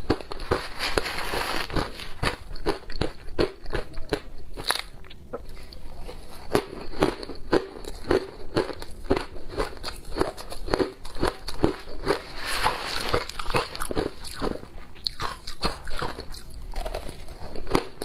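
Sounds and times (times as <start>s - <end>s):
teeth crunching ice: 1.8s - 5.2s, 6.4s - 18.0s.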